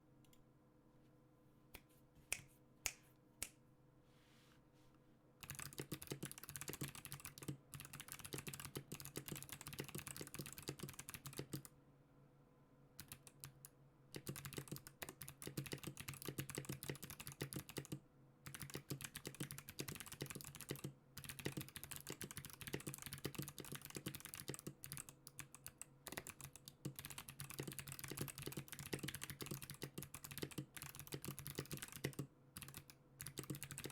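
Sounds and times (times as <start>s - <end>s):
clicky mechanical keyboard typing: 5.4s - 11.7s, 13.0s - 33.9s.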